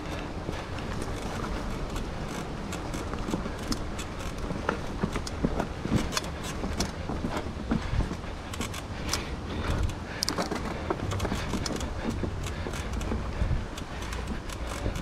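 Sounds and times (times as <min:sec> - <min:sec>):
bike chain and frame rattling: 0:00.0 - 0:15.0
bike tyres on dirt and stones: 0:00.0 - 0:15.0.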